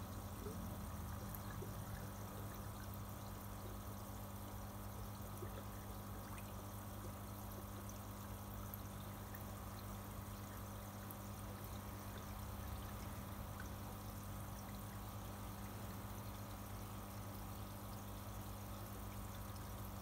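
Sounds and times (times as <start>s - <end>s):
low steady hum: 0.0s - 20.0s
water trickling into fish tank: 0.0s - 20.0s.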